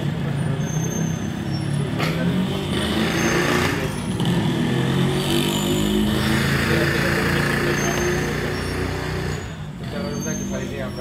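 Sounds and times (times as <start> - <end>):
outdoor street noise: 0.0 - 11.0.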